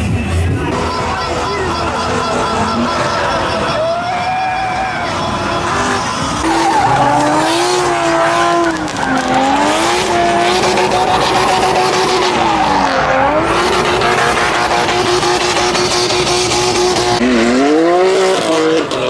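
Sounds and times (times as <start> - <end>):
car engine revving hard: 0.5 - 19.0
tyres squealing: 0.6 - 17.2.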